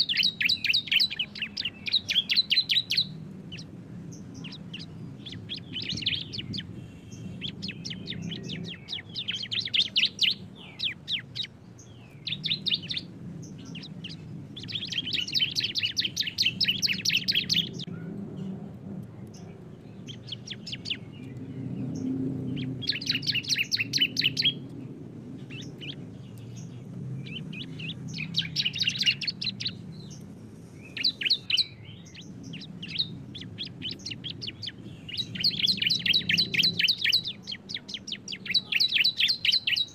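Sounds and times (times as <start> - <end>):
birds singing rattling trills: 0.0 - 39.9.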